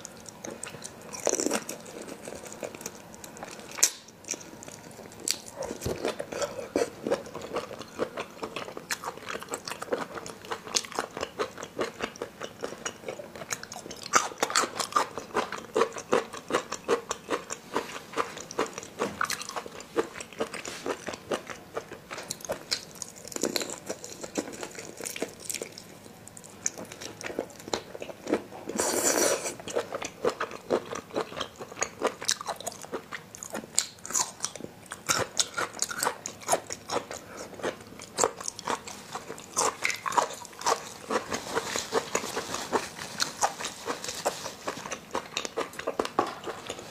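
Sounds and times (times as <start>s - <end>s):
crunchy chewing: 0.0s - 46.9s.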